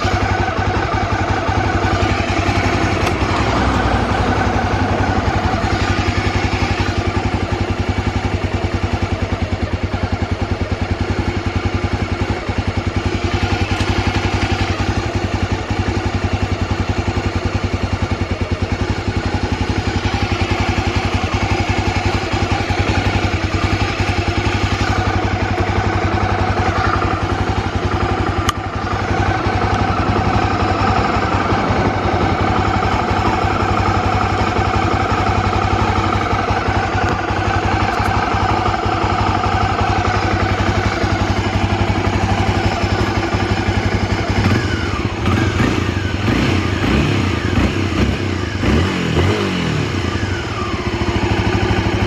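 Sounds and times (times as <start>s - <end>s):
motorcycle engine running and revving: 0.0s - 52.0s.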